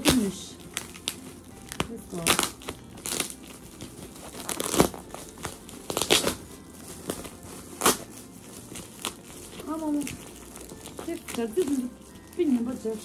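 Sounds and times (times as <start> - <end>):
gift packaging crinkling: 0.0 - 13.0.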